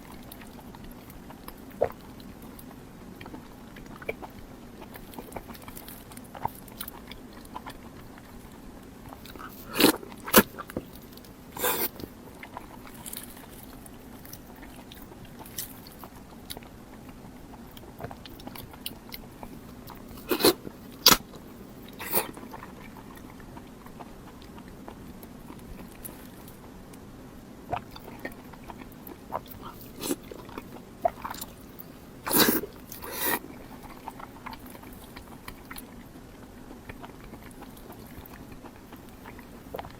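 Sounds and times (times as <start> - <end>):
wet chewing: 0.0 - 27.0, 27.7 - 39.9
faint low hum: 0.0 - 39.9.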